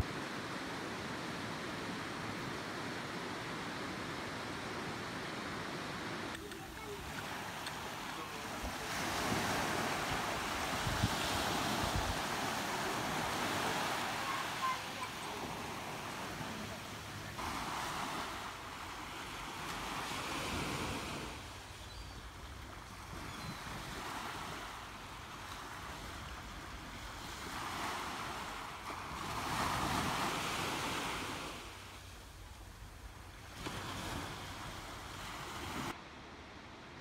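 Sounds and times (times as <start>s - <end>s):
small waves breaking on beach: 0.0s - 37.0s.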